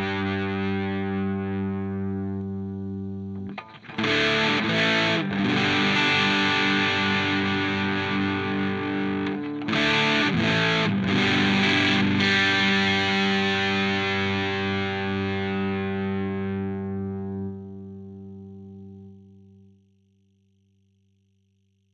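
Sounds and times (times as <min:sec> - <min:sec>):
distorted electric guitar chords: 0:00.0 - 0:19.7.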